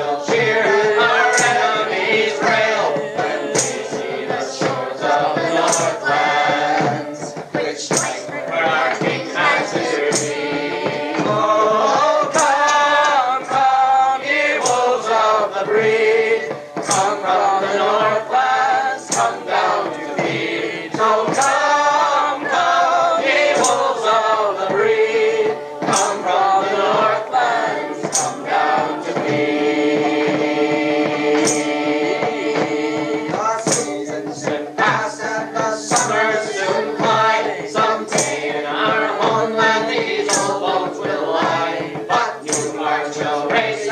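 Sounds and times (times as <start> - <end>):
choir singing in harmony: 0.0 - 43.9
sharp percussive beat: 0.0 - 43.9.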